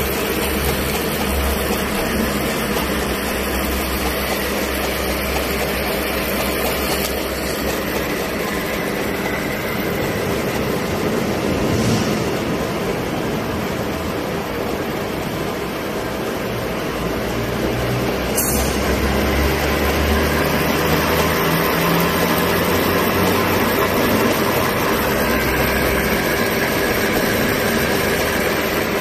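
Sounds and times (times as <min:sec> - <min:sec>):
milling machine humming: 0:00.0 - 0:29.0.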